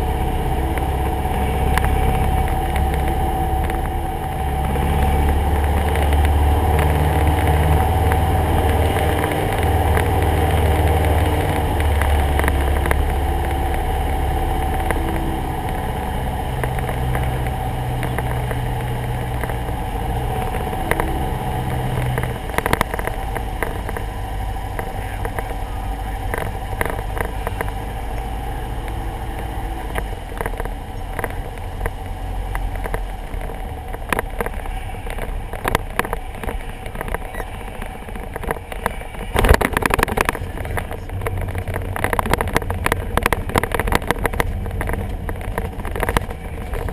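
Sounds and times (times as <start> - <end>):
aircraft piston engine droning: 0.0 - 46.9
sharp knocks and rattles: 0.0 - 46.9.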